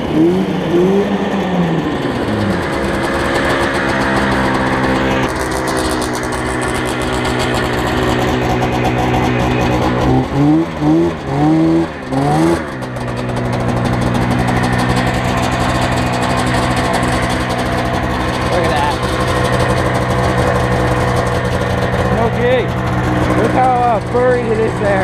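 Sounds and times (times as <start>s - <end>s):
snowmobile engine revving: 0.0s - 25.0s.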